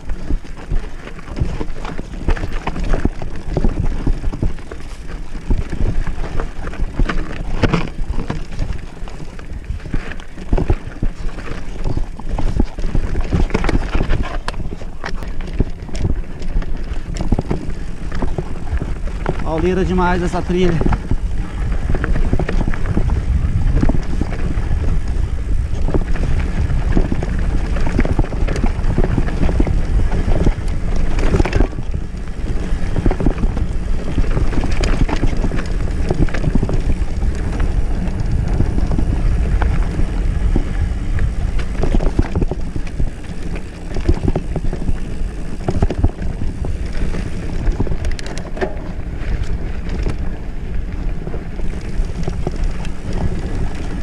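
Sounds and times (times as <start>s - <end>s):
bike knocking and rattling: 0.0s - 54.0s
bike tyres on dirt and stones: 0.0s - 54.0s
wind rumble on microphone: 0.0s - 54.0s.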